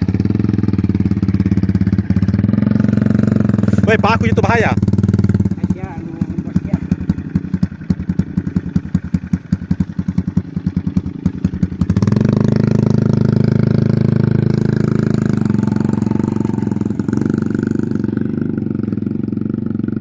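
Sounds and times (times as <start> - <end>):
motorcycle engine chugging and revving: 0.0 - 20.0.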